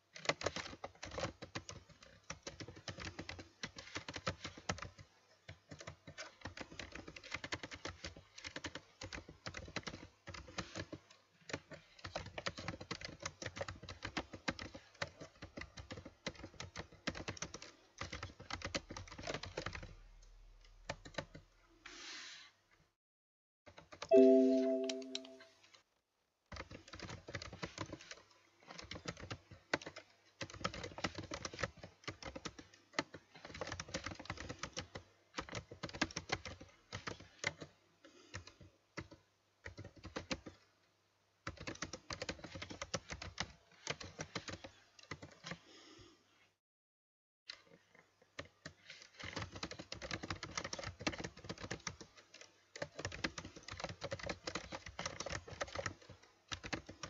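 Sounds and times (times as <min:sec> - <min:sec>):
computer keyboard typing: 0:00.2 - 0:20.0, 0:20.6 - 0:21.4, 0:23.7 - 0:25.4, 0:26.5 - 0:40.6, 0:41.4 - 0:45.8, 0:48.4 - 0:57.0.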